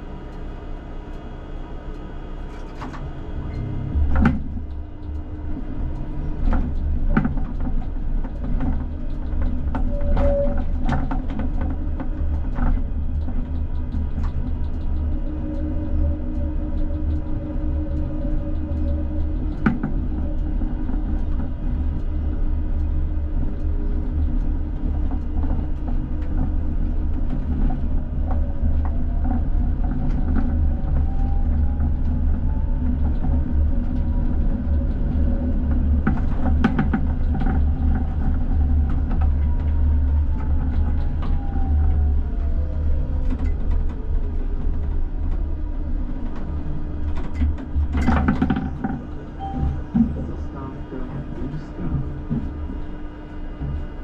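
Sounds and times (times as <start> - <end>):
tram deep rumble: 0.0 - 54.0
tram motor whine: 0.0 - 54.0.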